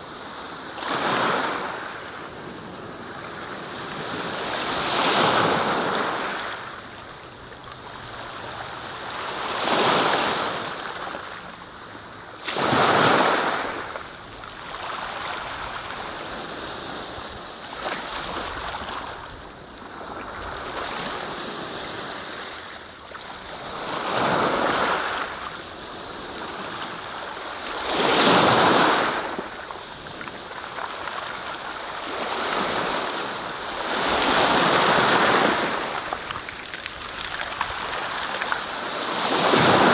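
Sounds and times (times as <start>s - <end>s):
rushing noise of waves: 0.0s - 22.6s, 23.8s - 39.9s.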